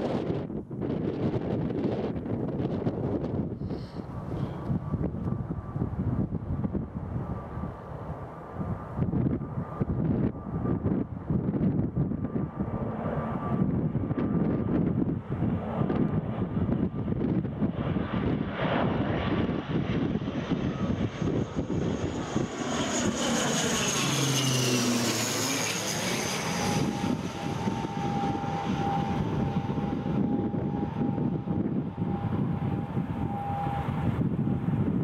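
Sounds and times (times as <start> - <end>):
propeller airliner passing overhead: 0.0 - 35.0
wind buffeting microphone: 0.0 - 35.0.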